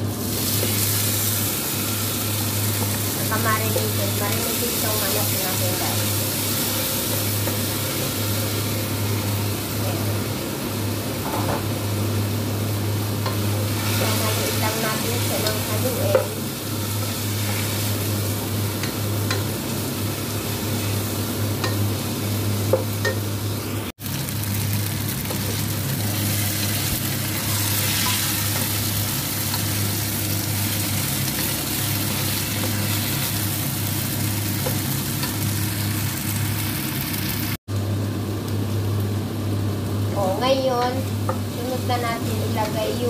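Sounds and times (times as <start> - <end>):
chicken sizzling in hot oil: 0.0 - 43.0.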